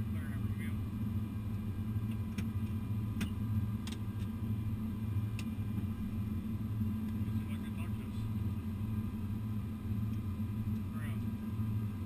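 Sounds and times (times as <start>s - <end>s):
airliner cockpit hum: 0.0s - 12.0s.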